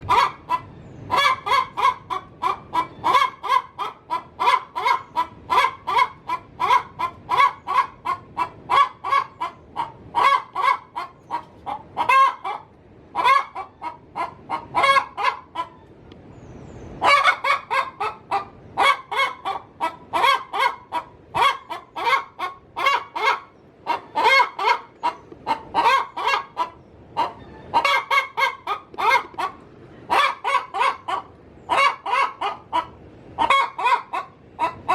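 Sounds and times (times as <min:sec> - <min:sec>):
hen cackling: 0:00.0 - 0:16.0, 0:17.0 - 0:34.9.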